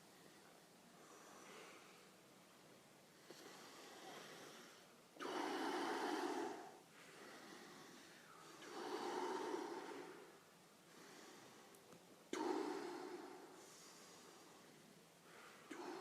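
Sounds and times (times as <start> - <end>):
soft breathing: 0.0 - 16.0
forceful breaths: 3.2 - 16.0.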